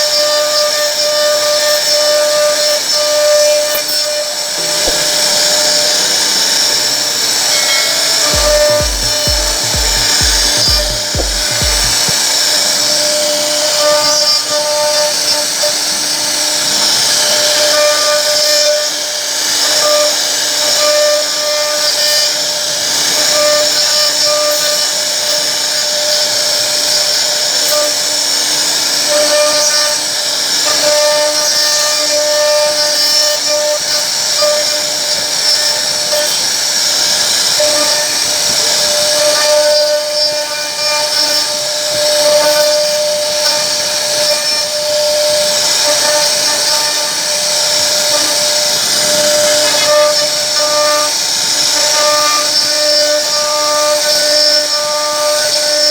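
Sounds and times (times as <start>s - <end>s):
router spindle cutting wood: 0.0s - 55.9s.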